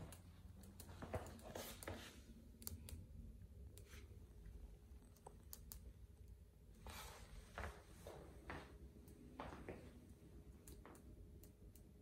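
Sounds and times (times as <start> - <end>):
crackly static: 0.0 - 12.0.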